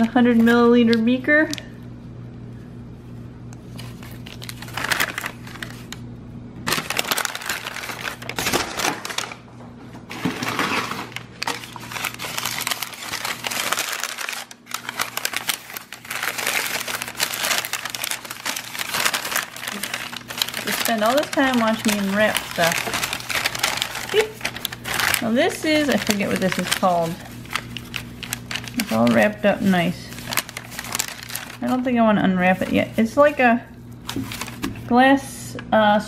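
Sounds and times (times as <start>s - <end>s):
faint steady hum: 0.0s - 36.0s
paper and plastic crinkling: 3.6s - 6.0s, 6.6s - 35.0s.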